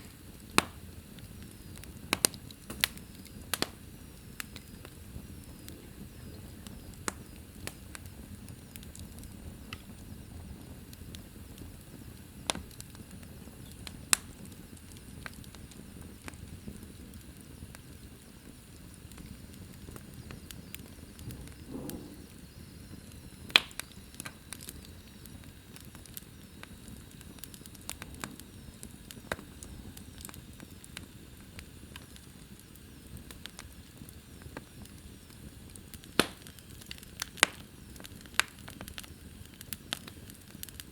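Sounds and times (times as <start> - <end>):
sharp pops from burning logs: 0.0 - 40.9
wood fire burning: 0.0 - 40.9.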